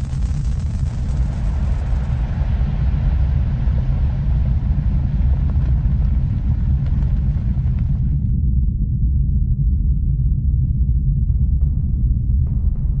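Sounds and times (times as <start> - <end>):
rocket engine rumble: 0.0 - 13.0.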